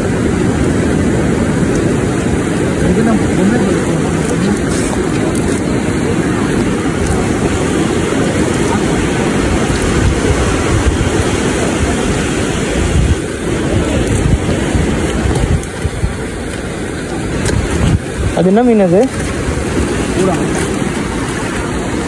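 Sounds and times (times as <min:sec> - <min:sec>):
waves washing onto beach: 0:00.0 - 0:22.0
wind buffeting microphone: 0:00.0 - 0:22.0.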